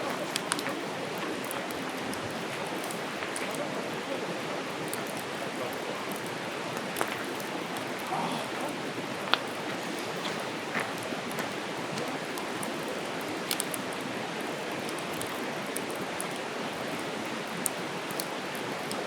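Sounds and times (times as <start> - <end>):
campfire crackling: 0.0 - 19.0
fire popping and snapping: 0.0 - 19.0.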